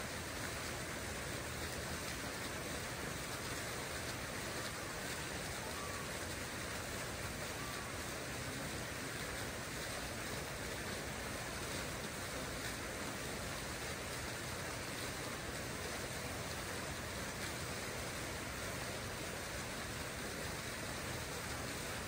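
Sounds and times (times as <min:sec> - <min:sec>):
water fountain splashing: 0:00.0 - 0:22.0.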